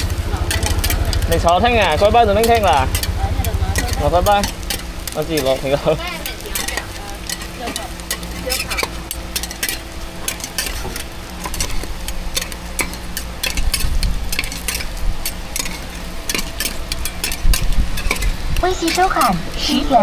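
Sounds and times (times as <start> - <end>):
pancakes sizzling on a griddle: 0.0 - 20.0
utensil scraping a griddle: 0.0 - 20.0.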